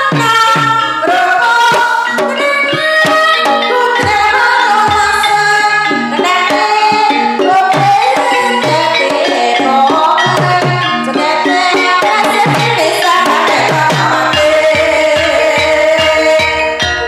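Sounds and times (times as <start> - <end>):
struck pitched notes melody: 0.0 - 17.0.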